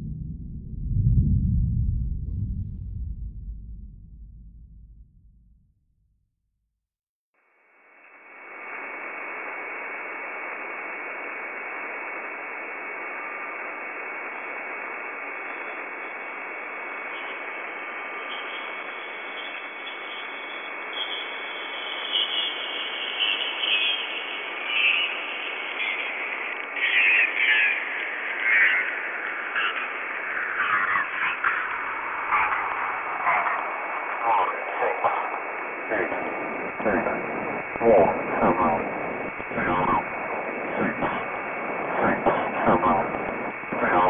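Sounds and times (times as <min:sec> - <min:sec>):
static hiss: 0:07.9 - 0:44.0
crackling bursts: 0:08.5 - 0:44.0.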